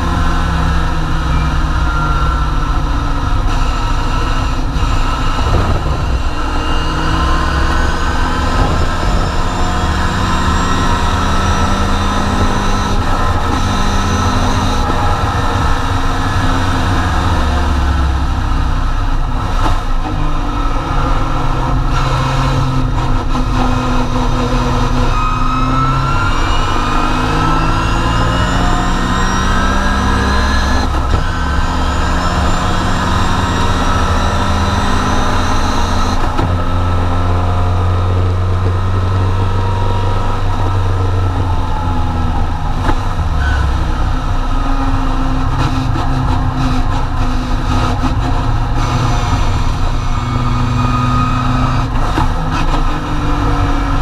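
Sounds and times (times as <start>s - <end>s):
race car engine accelerating: 0.0s - 54.0s.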